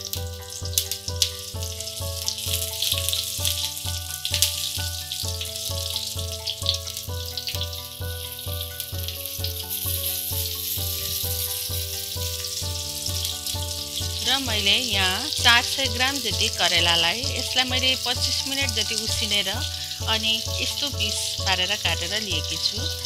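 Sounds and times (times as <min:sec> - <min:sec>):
background music with beat: 0:00.0 - 0:23.0
seeds sizzling in hot oil: 0:00.0 - 0:23.0.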